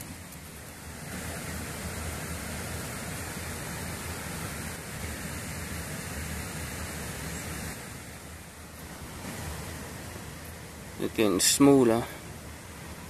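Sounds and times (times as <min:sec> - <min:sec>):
rain on river and vegetation: 0:00.0 - 0:13.0.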